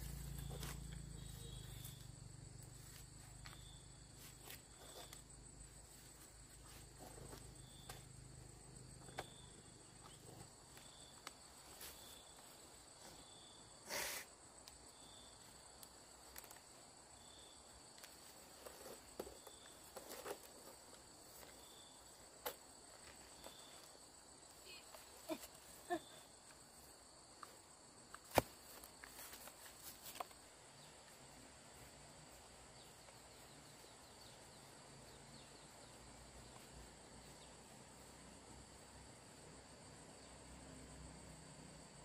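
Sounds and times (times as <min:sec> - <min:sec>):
insects chirping and buzzing: 0:00.0 - 0:42.0.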